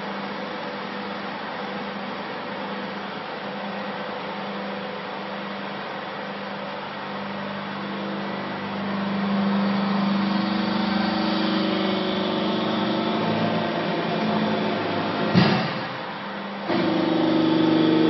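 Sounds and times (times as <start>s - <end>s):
hydraulic baler motor humming: 0.0s - 18.0s.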